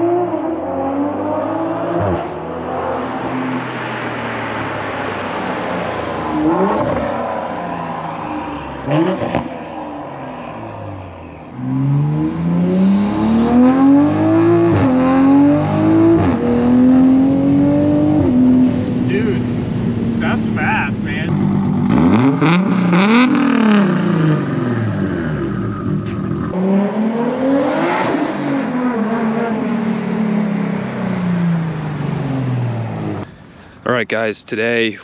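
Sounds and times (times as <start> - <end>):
car engine accelerating hard: 0.0 - 33.3.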